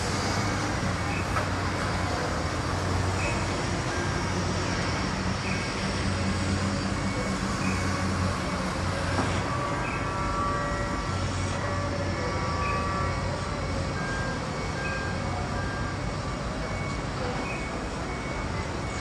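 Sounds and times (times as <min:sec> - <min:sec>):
thin high whining tones: 0:00.1 - 0:19.0.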